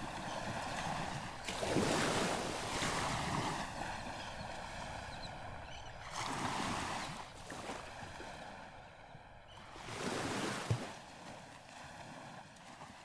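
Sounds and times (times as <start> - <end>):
small waves washing on beach: 0.0 - 13.0.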